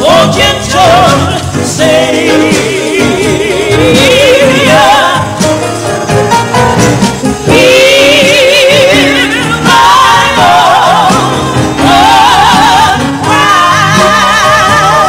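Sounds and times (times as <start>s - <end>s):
women's vocal group singing: 0.0s - 5.5s, 7.4s - 15.0s
backing band: 0.0s - 15.0s.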